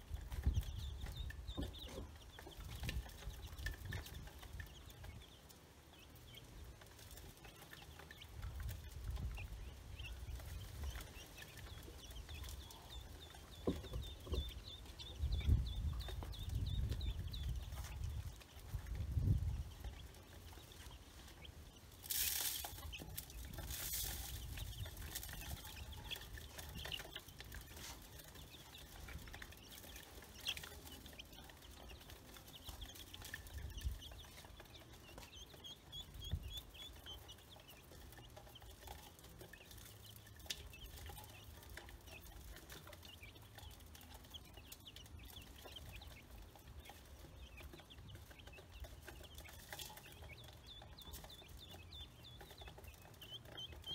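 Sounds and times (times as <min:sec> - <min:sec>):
chicks and ducklings peeping: 0:00.0 - 0:53.9
rustle: 0:00.0 - 0:53.9.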